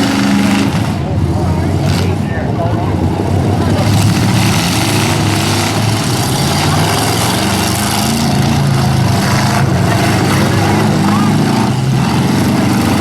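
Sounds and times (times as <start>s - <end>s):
pickup truck engines revving: 0.0s - 13.0s.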